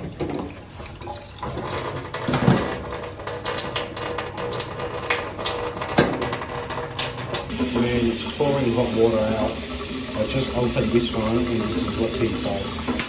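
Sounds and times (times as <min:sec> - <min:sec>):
water running from a tap: 0:00.0 - 0:13.0.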